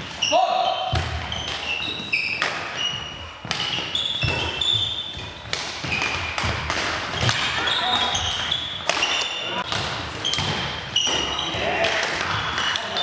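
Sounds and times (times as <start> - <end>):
shoes squeaking on floor: 0.0 - 13.0
rackets hitting shuttlecock: 0.1 - 13.0.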